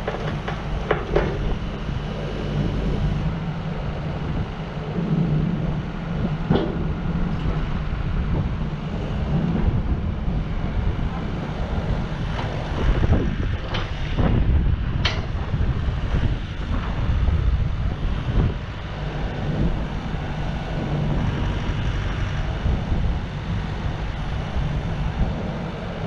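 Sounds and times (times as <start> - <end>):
excavator diesel engine running: 0.0 - 26.0
wind buffeting microphone: 0.0 - 26.0.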